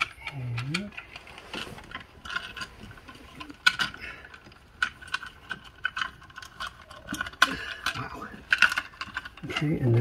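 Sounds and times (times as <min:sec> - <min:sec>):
cable rustling: 0:00.0 - 0:10.0.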